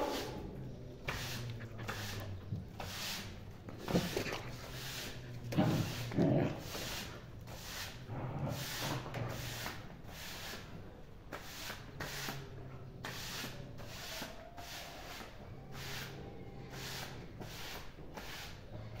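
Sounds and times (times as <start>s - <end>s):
broom sweeping a dusty floor: 0.0s - 19.0s.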